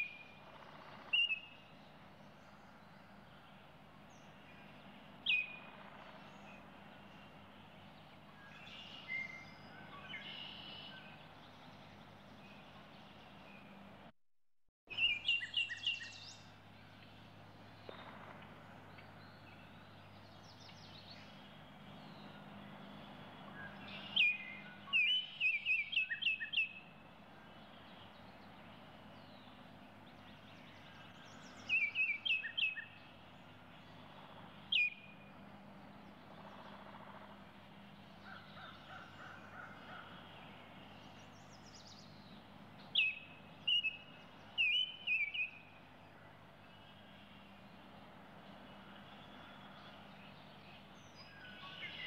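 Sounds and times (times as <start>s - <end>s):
faint background hum: 0.0s - 14.1s, 14.9s - 52.0s.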